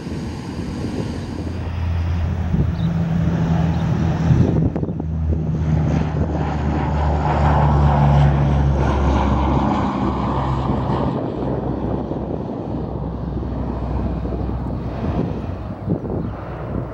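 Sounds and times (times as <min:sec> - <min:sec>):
turboprop aircraft engines droning: 0:00.0 - 0:16.9.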